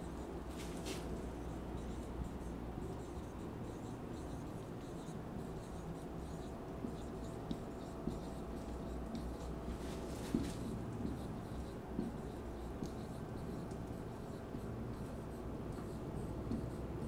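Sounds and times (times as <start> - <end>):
faint room hum: 0.0 - 17.0
marker scratching on whiteboard: 0.0 - 17.0.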